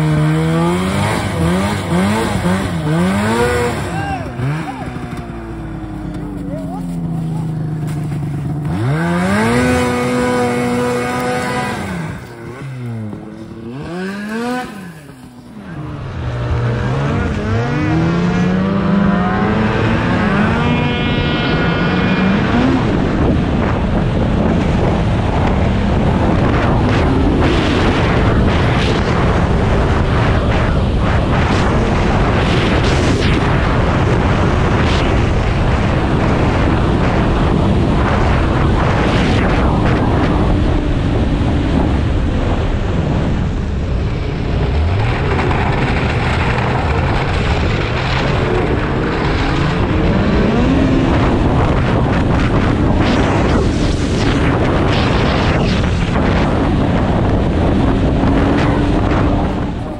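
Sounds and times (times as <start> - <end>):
snowmobile pulling away: 0.0 - 32.8, 33.4 - 53.6
snowmobile engine revving: 0.0 - 59.9
track and wind rushing: 0.0 - 59.9.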